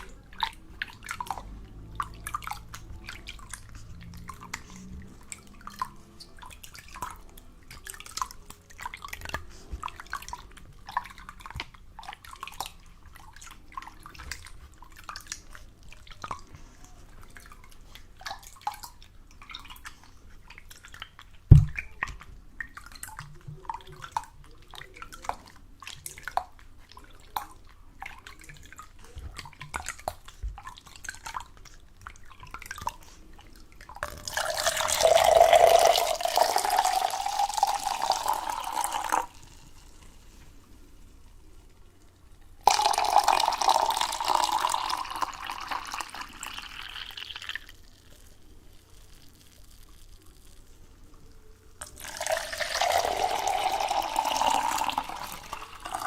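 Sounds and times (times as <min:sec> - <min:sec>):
water dripping: 0:00.0 - 0:40.8, 0:41.5 - 0:56.0.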